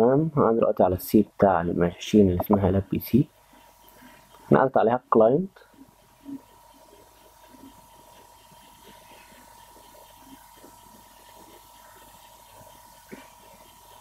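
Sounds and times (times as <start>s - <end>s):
thin steady hum: 0.0s - 14.0s.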